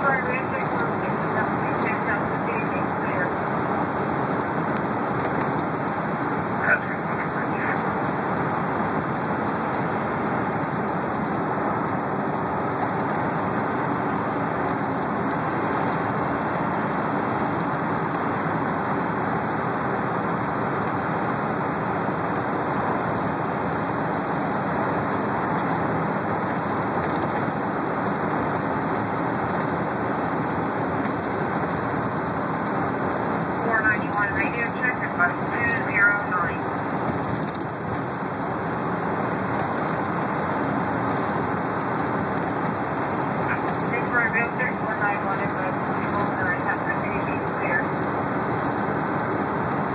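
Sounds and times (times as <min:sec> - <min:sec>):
bus engine and road noise: 0:00.0 - 0:49.9.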